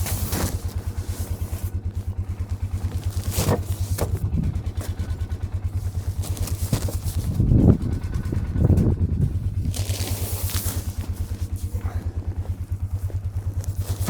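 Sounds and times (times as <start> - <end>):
vehicle engine running at low revs: 0.0 - 14.0
knocks and rattles: 2.4 - 14.0.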